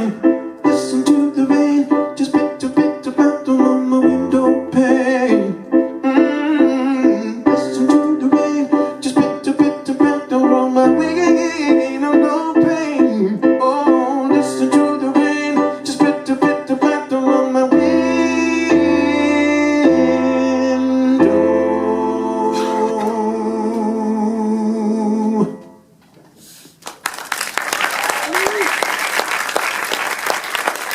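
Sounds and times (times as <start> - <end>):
solo piano playing slow song: 0.0 - 25.8.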